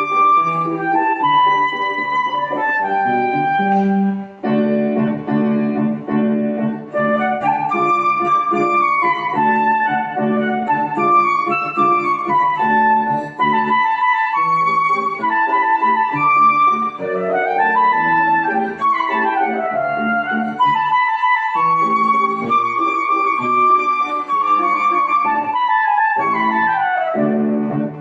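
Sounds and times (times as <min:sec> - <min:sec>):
piano accompaniment: 0:00.0 - 0:28.0
woodwind solo playing waltz: 0:00.0 - 0:28.0.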